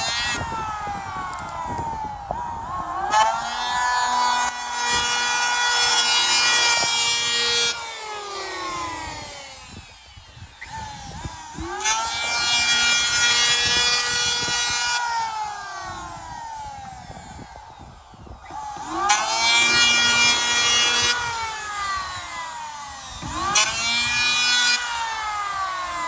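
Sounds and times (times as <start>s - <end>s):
electric planer whining: 0.0s - 26.0s.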